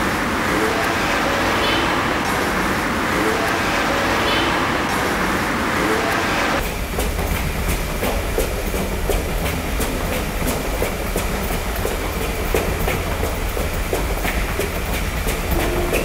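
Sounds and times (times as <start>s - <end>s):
train rumbling on rails: 0.0s - 16.0s
wheels clicking over rail joints: 0.0s - 16.0s.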